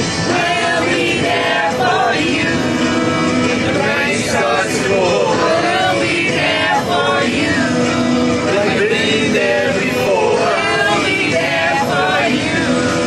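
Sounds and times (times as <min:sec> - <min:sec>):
men and women singing in chorus: 0:00.1 - 0:13.0.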